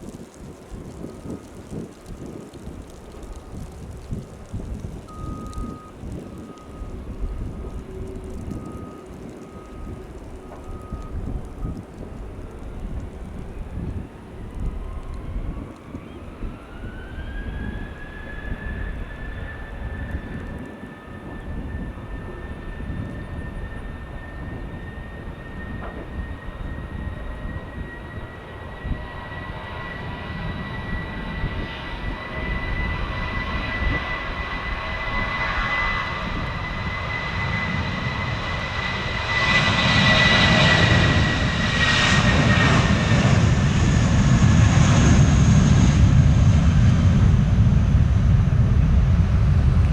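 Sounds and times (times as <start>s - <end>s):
low rumble: 0.0s - 19.1s, 22.9s - 49.9s
jet engines whining: 1.0s - 49.9s.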